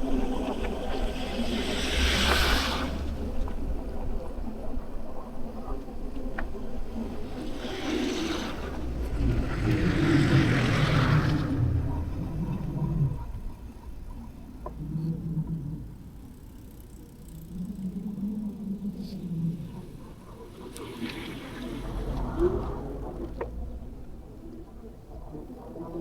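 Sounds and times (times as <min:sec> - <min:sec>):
bicycle rumbling: 0:00.0 - 0:26.0
wind buffeting microphone: 0:00.0 - 0:26.0.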